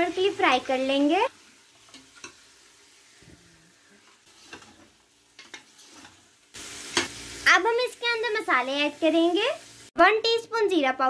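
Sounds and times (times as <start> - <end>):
meat sizzling in a pot: 0.0 - 10.8.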